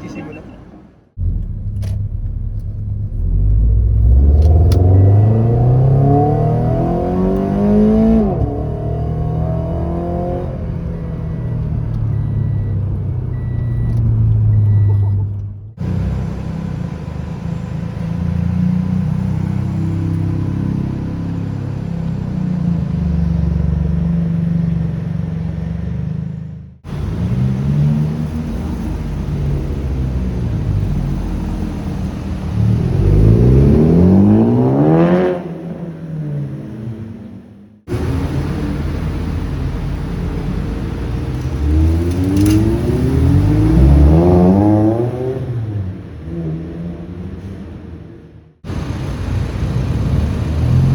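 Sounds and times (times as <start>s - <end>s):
car accelerating hard: 0.0s - 50.9s
cars driving past: 0.0s - 50.9s.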